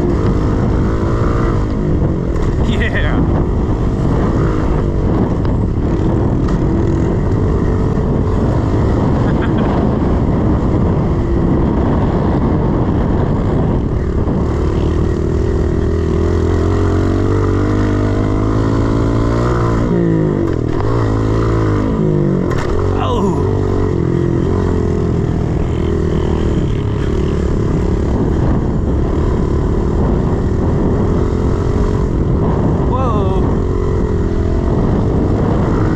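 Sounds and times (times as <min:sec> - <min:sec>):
pit bike engine revving: 0:00.0 - 0:35.9.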